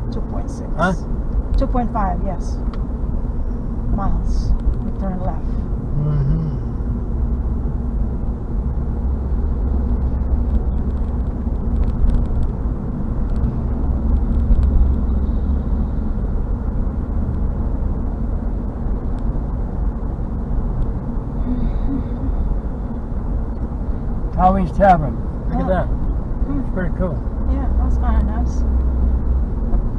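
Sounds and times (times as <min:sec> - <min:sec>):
car road rumble from cabin: 0:00.0 - 0:29.9.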